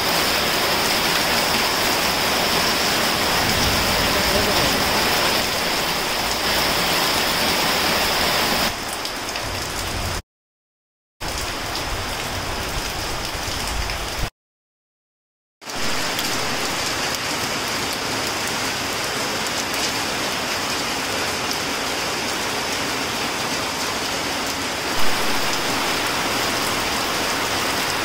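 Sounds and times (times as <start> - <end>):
heavy rain pouring: 0.0 - 10.2, 11.2 - 14.3, 15.6 - 28.0.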